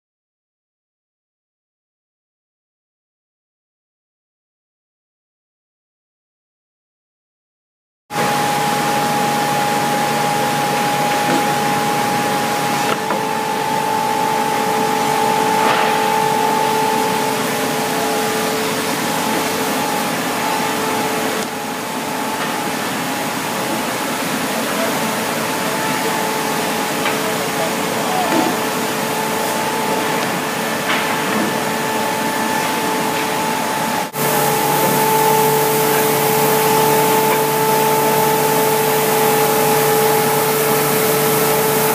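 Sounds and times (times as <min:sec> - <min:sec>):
two-tone machine hum: 0:08.1 - 0:41.9.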